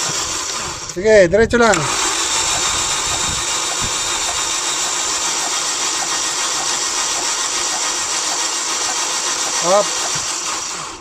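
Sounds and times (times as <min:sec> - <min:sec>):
starter motor cranking engine: 0:00.0 - 0:11.0.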